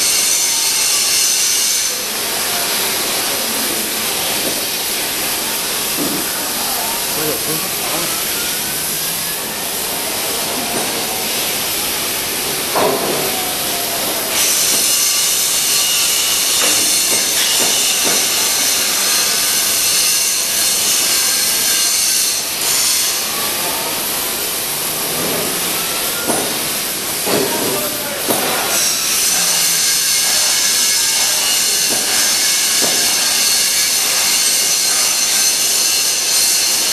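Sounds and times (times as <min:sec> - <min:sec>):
foam cutting machine hiss: 0:00.0 - 0:36.9.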